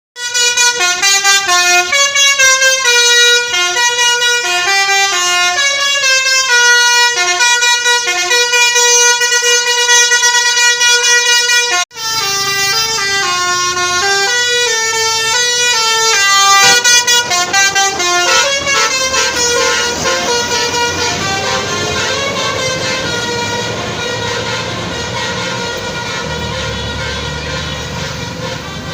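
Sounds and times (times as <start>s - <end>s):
engine and street rumble: 0.2s - 28.9s
multi-tone air horn melody: 0.2s - 28.9s.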